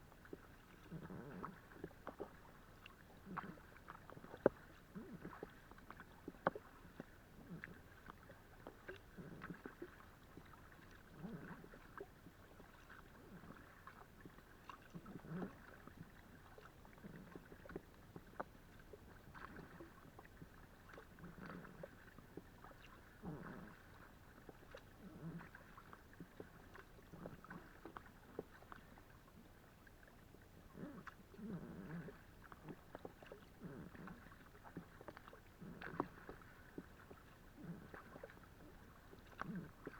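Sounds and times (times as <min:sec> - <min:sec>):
kayak paddle strokes in water: 0:00.0 - 0:39.9
small clicks and drips: 0:00.0 - 0:39.9.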